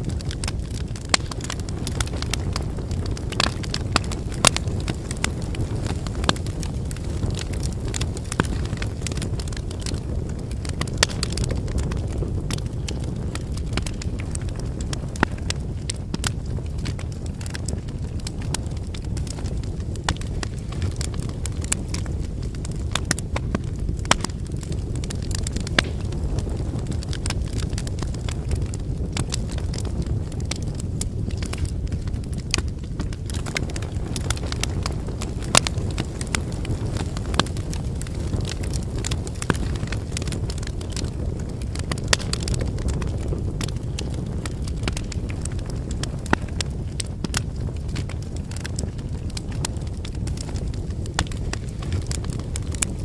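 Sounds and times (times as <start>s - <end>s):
burning logs crackling and popping: 0.0s - 53.0s
low rumble of flames: 0.0s - 53.0s.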